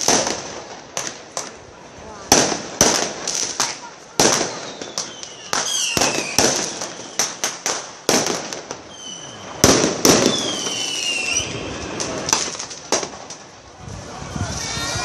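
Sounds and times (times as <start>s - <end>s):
fireworks whistling: 0.0s - 1.6s, 2.3s - 15.0s
fireworks bangs and crackles: 0.0s - 15.0s.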